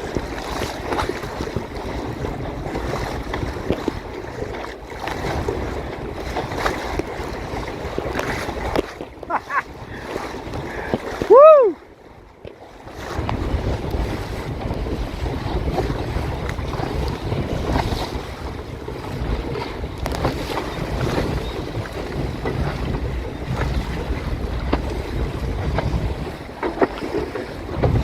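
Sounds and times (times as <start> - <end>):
water slapping against hull: 0.0 - 28.0
wind buffeting microphone: 0.0 - 28.0.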